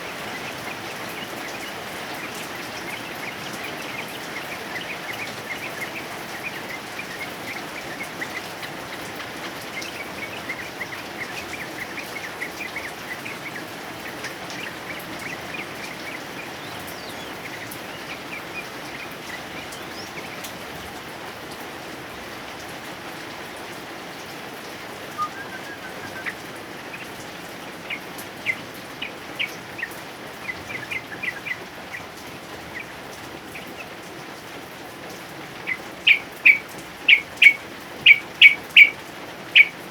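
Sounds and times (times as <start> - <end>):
bird chirping: 0.0 - 21.4, 25.1 - 34.2, 35.5 - 39.9
heavy rain: 0.0 - 39.9.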